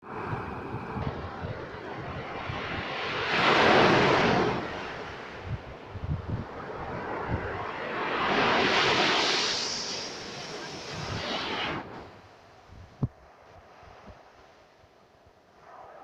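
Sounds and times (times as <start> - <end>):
wind buffeting microphone: 0.0 - 14.3
sea waves breaking on shore: 0.0 - 14.9.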